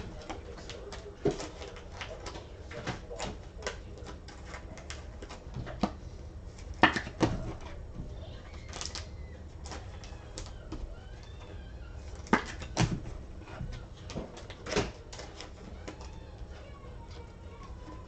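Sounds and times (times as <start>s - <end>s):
trading cards rustling and clicking: 0.0s - 18.0s.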